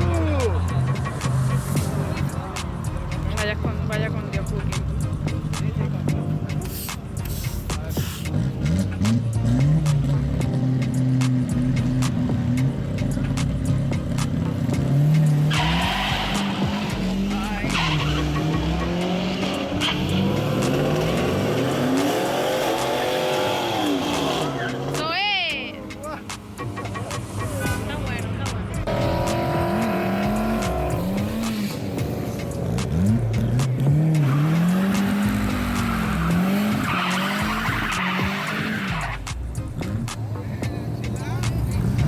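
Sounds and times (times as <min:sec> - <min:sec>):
car engine revving: 0:00.0 - 0:25.6, 0:26.3 - 0:42.0.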